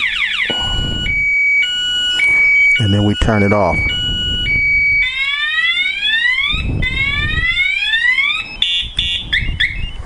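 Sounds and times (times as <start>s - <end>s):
motorcycle alarm tone: 0.0s - 10.0s
rising siren whoops: 0.0s - 10.0s
short alarm beeps: 0.0s - 10.0s.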